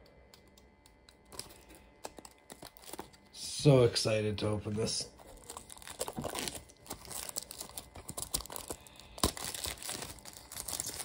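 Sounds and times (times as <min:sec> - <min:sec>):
packaging crinkling: 0:00.3 - 0:03.4, 0:05.1 - 0:11.0.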